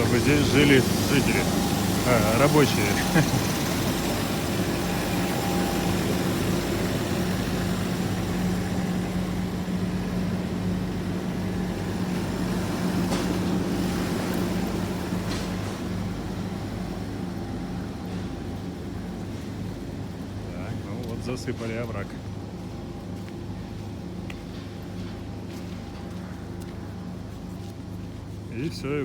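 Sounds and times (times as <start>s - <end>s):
large engine idling: 0.0s - 29.0s.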